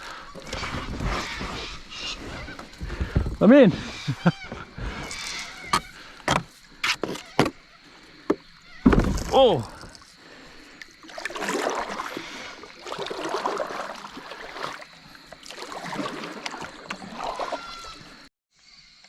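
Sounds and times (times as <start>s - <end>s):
water splashing and sloshing: 0.0s - 18.3s.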